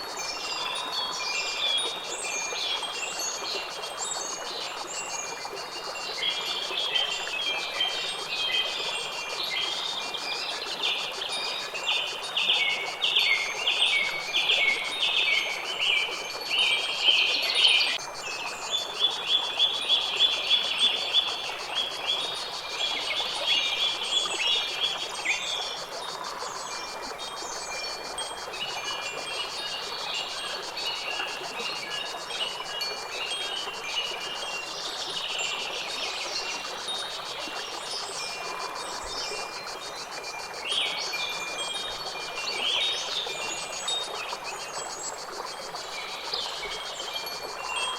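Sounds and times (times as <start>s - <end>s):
steady outdoor hiss: 0.0s - 47.9s.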